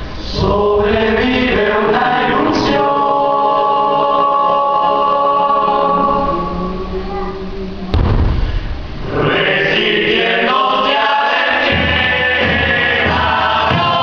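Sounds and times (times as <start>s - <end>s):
choir singing: 0.2s - 8.0s, 9.0s - 14.0s.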